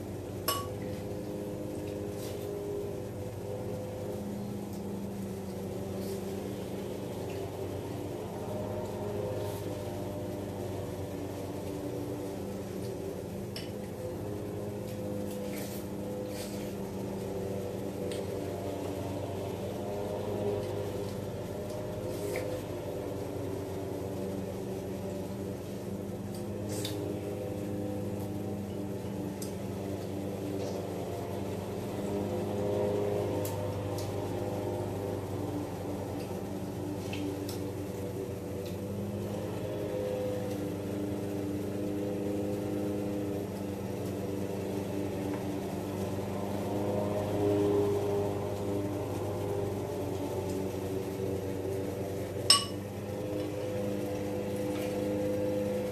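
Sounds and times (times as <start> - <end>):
mechanical hum: 0.0 - 55.9.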